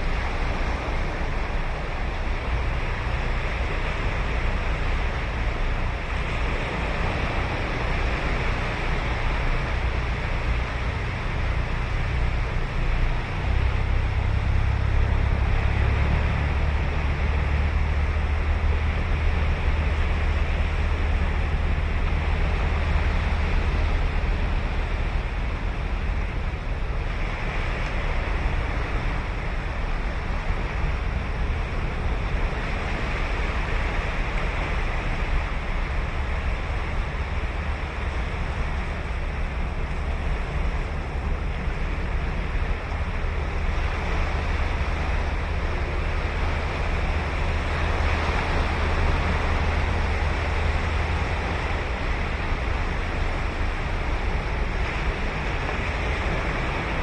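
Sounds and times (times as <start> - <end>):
ocean waves breaking on beach: 0.0 - 57.0
wind on microphone: 0.0 - 57.0.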